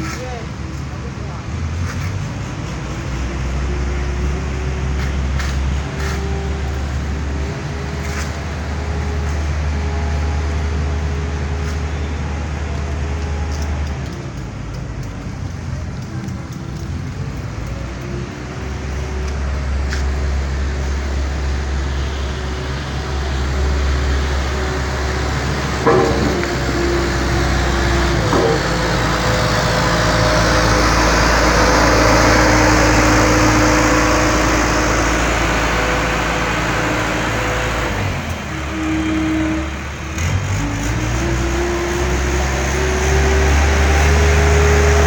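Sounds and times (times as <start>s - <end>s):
diesel engines rumbling: 0.0s - 45.0s.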